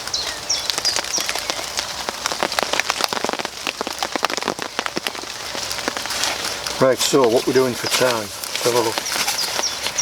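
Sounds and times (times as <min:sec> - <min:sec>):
rain falling: 0:00.0 - 0:10.0
raindrop impacts close by: 0:00.0 - 0:10.0.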